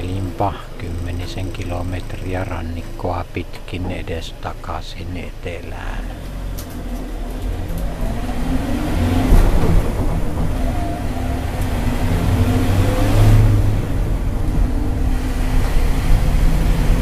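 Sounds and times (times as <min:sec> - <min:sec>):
low road rumble: 0:00.0 - 0:17.0
vehicle engine running: 0:00.0 - 0:17.0.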